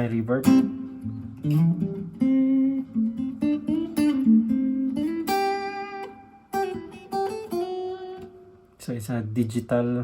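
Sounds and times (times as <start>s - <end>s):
electric guitar with reverb: 0.0s - 8.8s.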